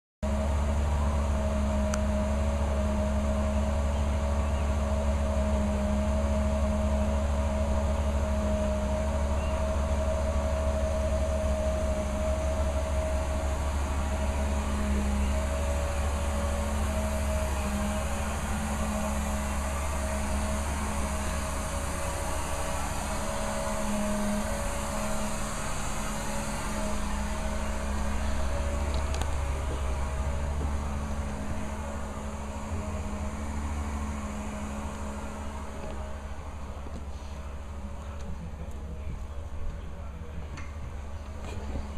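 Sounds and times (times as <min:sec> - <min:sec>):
cleaning machine mechanical drone: 0:00.2 - 0:41.9.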